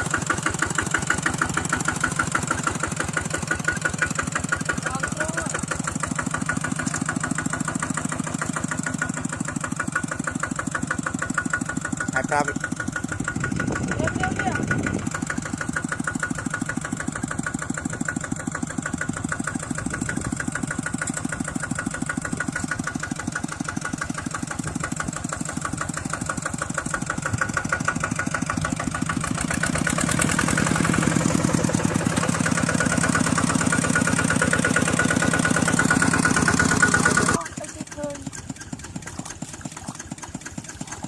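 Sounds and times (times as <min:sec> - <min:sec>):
small engine running: 0:00.0 - 0:41.0.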